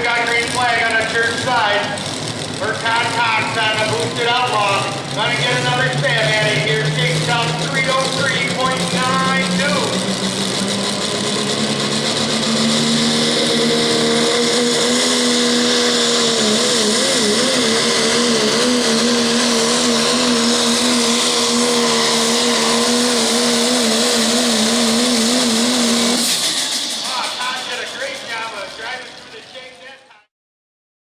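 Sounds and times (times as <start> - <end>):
diesel truck engine and turbo: 0.0 - 30.3.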